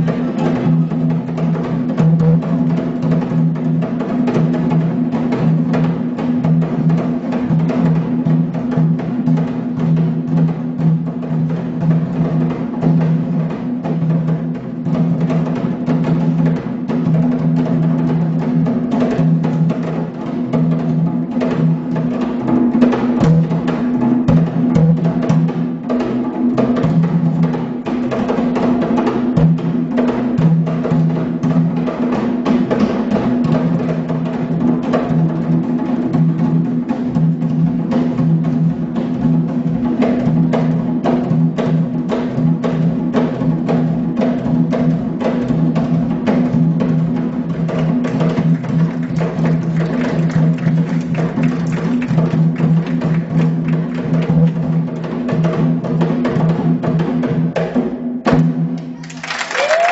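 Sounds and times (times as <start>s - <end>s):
hand drum ensemble: 0.0s - 59.9s.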